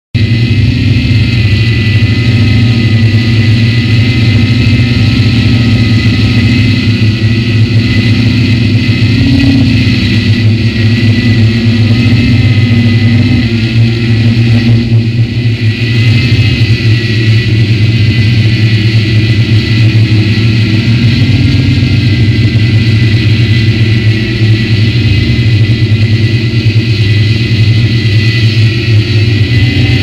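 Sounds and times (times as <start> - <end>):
drone propellers whirring: 0.1 - 30.0.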